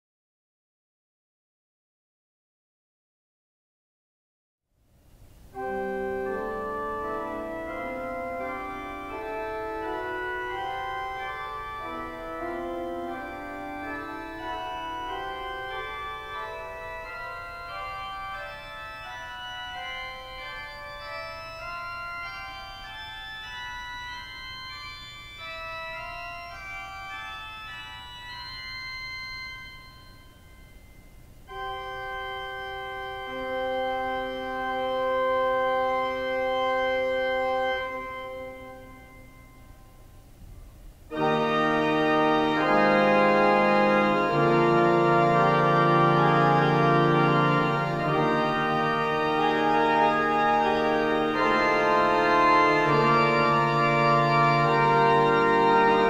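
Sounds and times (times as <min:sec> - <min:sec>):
pipe organ notes: 0:05.5 - 0:40.4, 0:41.1 - 0:56.0.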